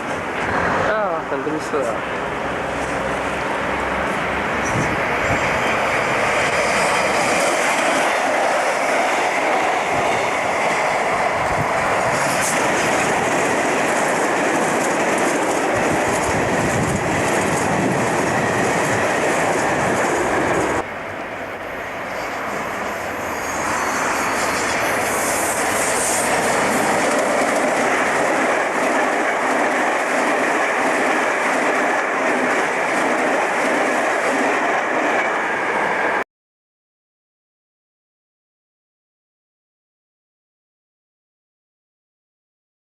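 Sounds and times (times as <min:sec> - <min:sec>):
train wheels rushing on rails: 0:00.0 - 0:36.2.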